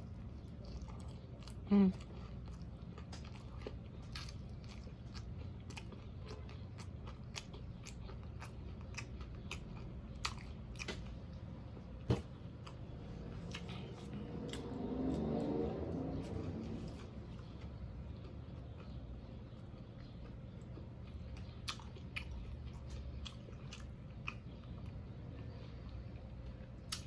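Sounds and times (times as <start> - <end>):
chewing crusty bread: 0.0 - 27.0.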